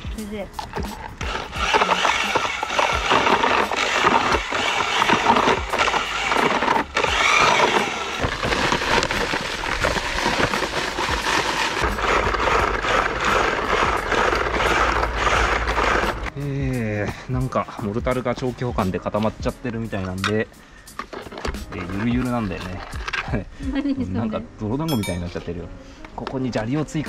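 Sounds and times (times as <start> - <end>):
mortar mixing scraping and churning: 0.0 - 23.5.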